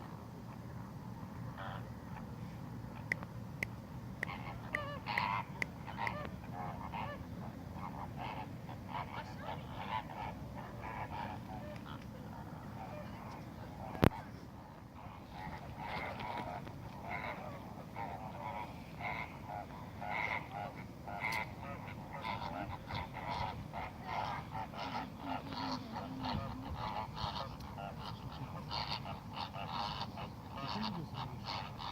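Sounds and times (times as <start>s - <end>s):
flamingos honking: 0.5s - 3.2s, 4.2s - 31.9s.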